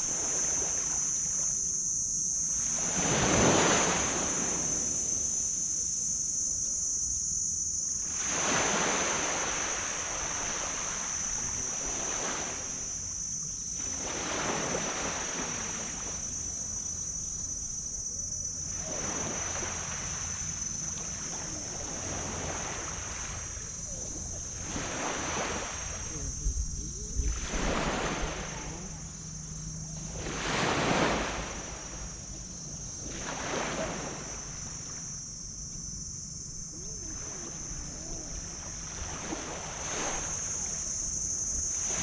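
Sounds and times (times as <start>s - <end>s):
waves breaking on a beach: 0.0s - 6.0s, 8.0s - 17.2s, 17.8s - 35.3s, 36.6s - 42.0s
steady high-pitched hum: 0.0s - 42.0s.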